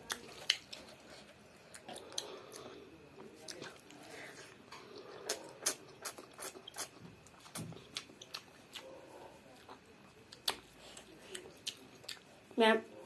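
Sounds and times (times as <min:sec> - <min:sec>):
child chewing and lip smacking: 0:00.0 - 0:13.0.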